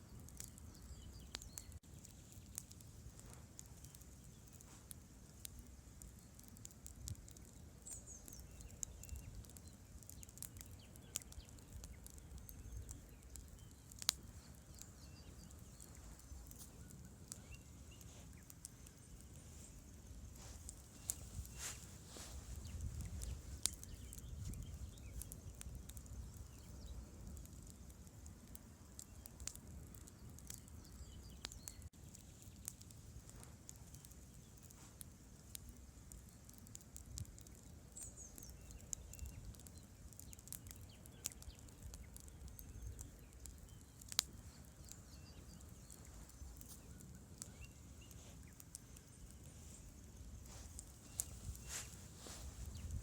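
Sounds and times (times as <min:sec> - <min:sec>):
campfire crackling: 0:00.0 - 0:53.0
fire popping and cracking: 0:00.0 - 0:53.0.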